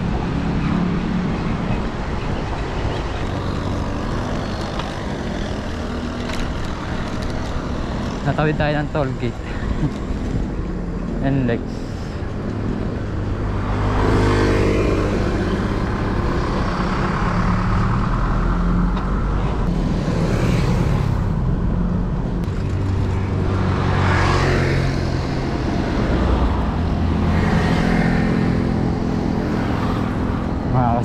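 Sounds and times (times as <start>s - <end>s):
traffic engines rumbling: 0.0s - 31.0s
vehicles passing by: 0.0s - 31.0s.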